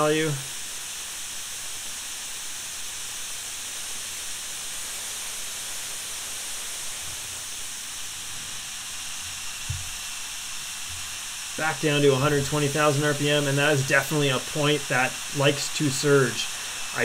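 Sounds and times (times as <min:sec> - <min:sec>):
model jet turbine hissing: 0:00.0 - 0:17.0.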